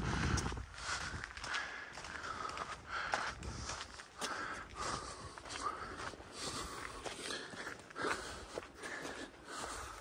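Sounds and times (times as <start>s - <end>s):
footsteps on rocky dirt trail: 0.0s - 10.0s.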